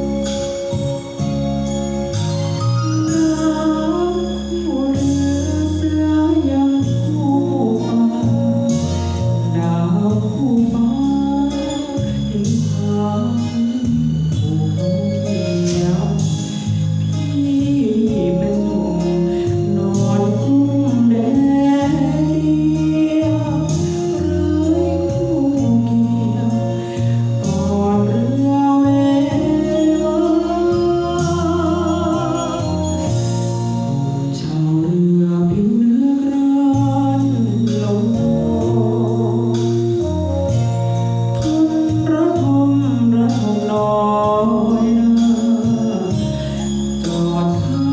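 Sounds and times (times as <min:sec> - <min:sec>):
backing music with steady beat: 0:00.0 - 0:47.9
man singing into microphone: 0:02.8 - 0:33.4, 0:34.2 - 0:40.4, 0:41.4 - 0:47.9.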